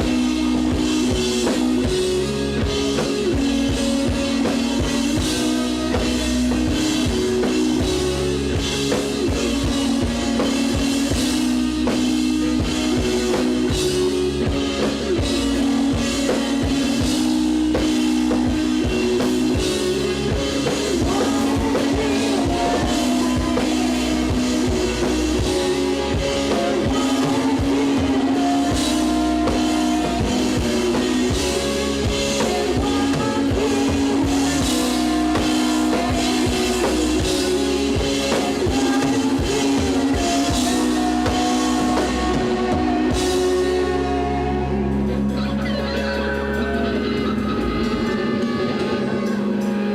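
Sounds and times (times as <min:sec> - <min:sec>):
drum kit beat: 0:00.0 - 0:49.9
guitar chords: 0:00.0 - 0:49.9.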